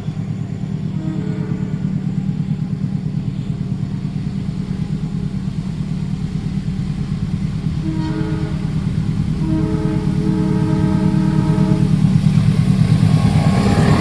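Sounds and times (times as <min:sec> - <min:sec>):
train rumbling over crossing: 0:00.0 - 0:14.0.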